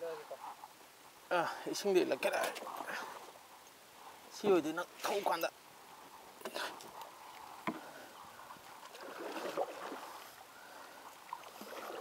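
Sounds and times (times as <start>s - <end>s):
water splashing along a canoe: 0.2s - 12.0s.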